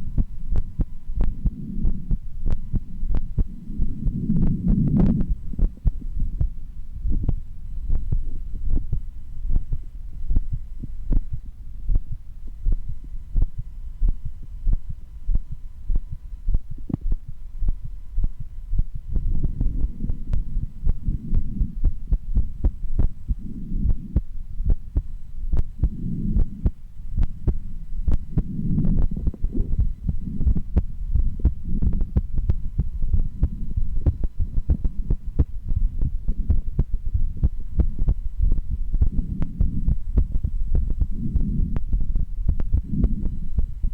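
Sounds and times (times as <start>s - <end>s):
heartbeat through stethoscope: 0.0s - 43.9s.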